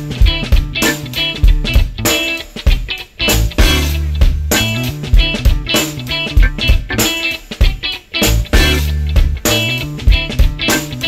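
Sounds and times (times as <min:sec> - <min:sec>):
background music with guitar and drums: 0:00.0 - 0:11.0.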